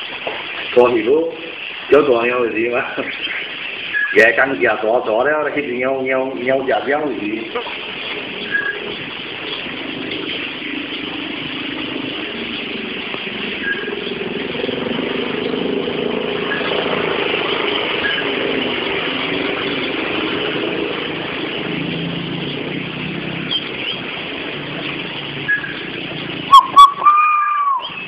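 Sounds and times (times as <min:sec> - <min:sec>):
motor traffic engines: 0:00.0 - 0:28.0.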